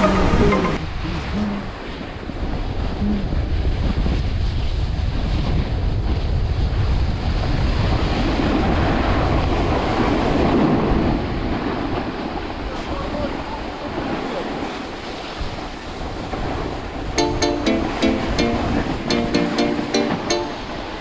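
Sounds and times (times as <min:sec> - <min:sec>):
wind on microphone: 0:00.0 - 0:17.2.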